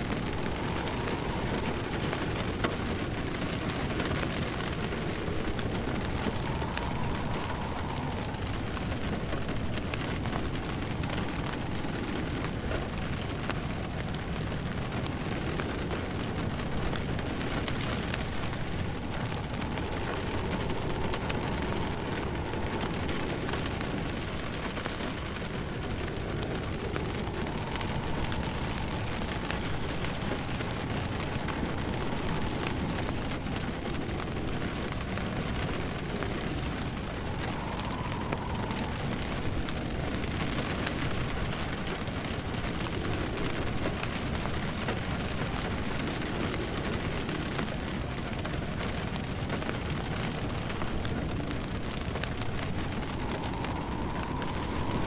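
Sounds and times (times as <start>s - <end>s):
faint wind: 0.0s - 55.0s
steady rain: 0.0s - 55.0s
wood fire crackling: 0.0s - 55.0s.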